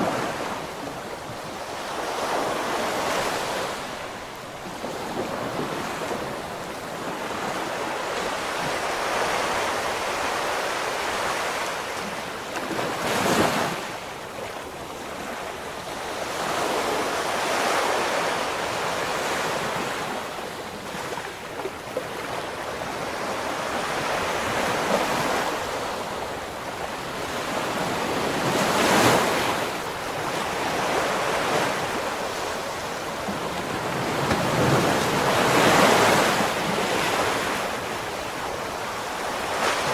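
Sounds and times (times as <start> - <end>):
heavy waves crashing: 0.0 - 14.1, 15.1 - 39.9
waves washing up the shore: 0.0 - 39.9.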